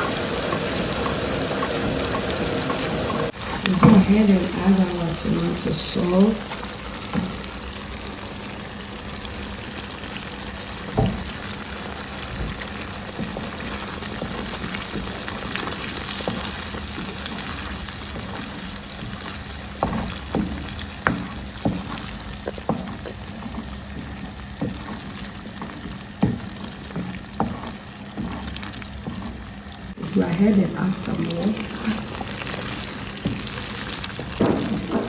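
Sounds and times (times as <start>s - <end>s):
sauce sizzling in hot oil: 0.0s - 35.0s.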